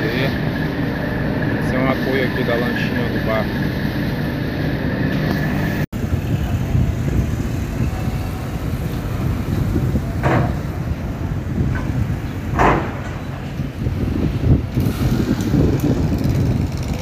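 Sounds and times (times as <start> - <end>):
boat engines rumbling: 0.0 - 17.0
water churning along hull: 0.0 - 17.0.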